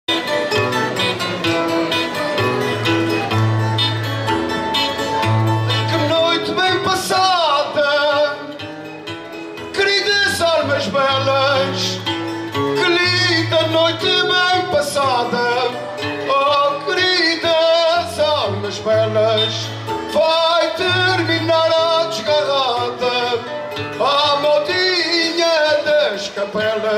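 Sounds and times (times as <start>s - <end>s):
guitar melody: 0.1s - 26.9s
plucked guitar bass line: 0.1s - 26.9s
man singing: 4.7s - 26.9s.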